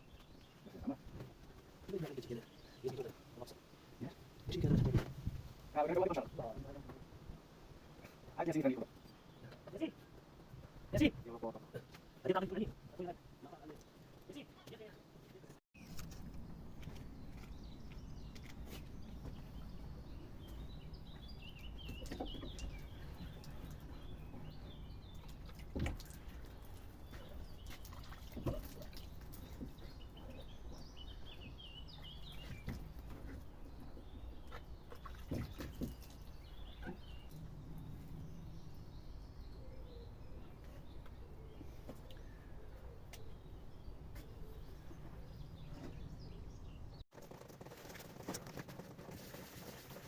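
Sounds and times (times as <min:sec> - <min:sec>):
small birds chirping: 0:07.9 - 0:50.0.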